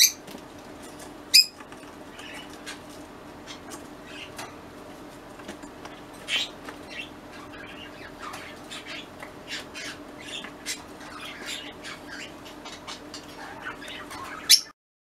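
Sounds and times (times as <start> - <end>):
cockatiels chirping and squawking: 0.0 - 0.2, 1.3 - 4.5, 5.9 - 14.7
faint steady hum: 0.0 - 14.7.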